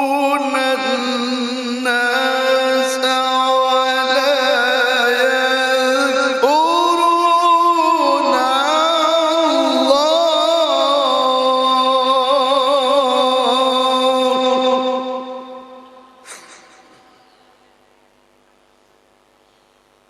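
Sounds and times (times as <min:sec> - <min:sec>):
man chanting recitation: 0:00.0 - 0:16.2.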